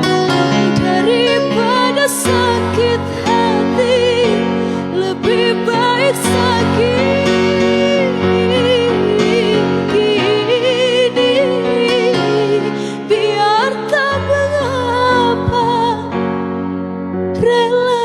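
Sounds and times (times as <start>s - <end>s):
woman singing: 0.0s - 16.4s, 17.3s - 18.0s
instrumental backing: 0.0s - 18.0s.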